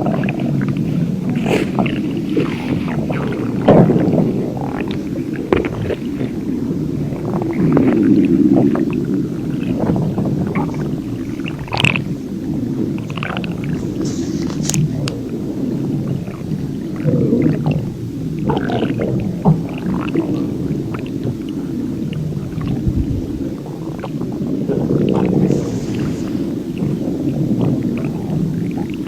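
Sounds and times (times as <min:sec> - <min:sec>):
stomach growling and gurgling: 0:00.0 - 0:29.0.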